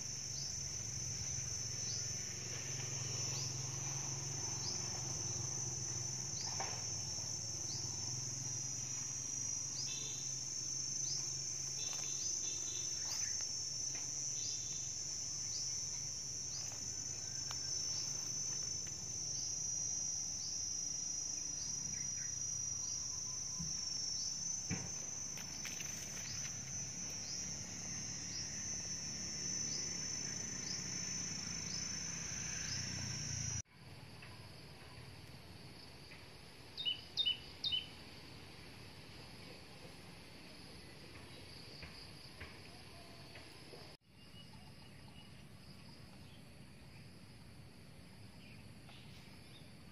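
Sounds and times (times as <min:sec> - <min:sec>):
insects shrilling drone: 0:00.0 - 0:49.9.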